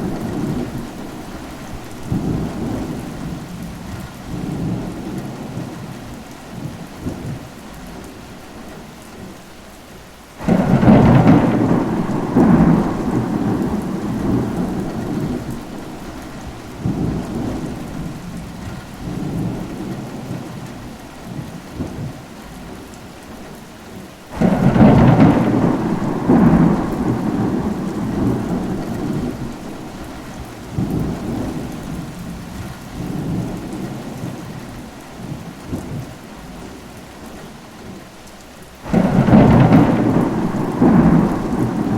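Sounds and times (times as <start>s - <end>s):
thunder claps and rumbles: 0.0s - 8.1s, 10.4s - 23.0s, 24.3s - 36.8s, 38.8s - 41.9s
steady rainfall: 0.0s - 41.9s.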